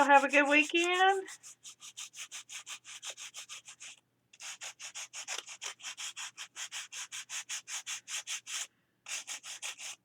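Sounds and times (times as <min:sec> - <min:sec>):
sandpaper rasping on paper: 0:00.0 - 0:10.0.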